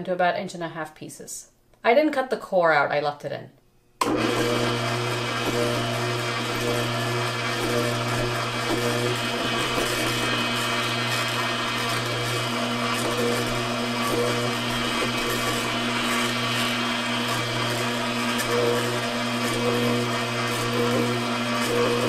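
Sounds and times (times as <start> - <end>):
juicer motor hum: 4.0 - 22.0.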